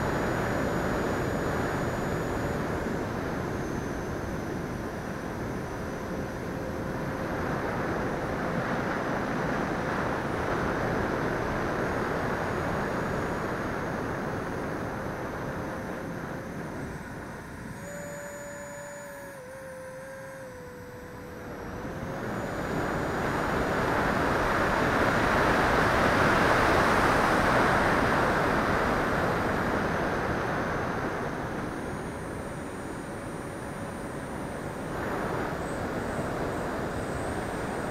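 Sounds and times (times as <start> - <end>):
model jet motor whine: 0.0 - 37.9.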